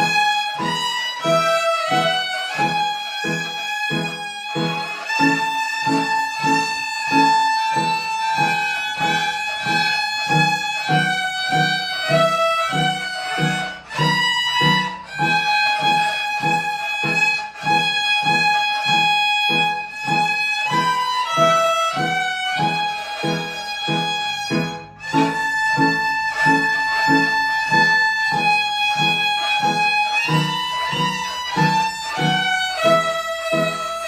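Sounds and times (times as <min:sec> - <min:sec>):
violins playing a melody: 0:00.0 - 0:34.0.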